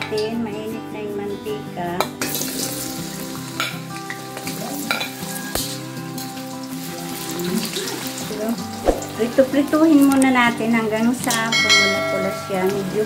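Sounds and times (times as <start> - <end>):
food sizzling in hot oil: 2.2 - 13.0.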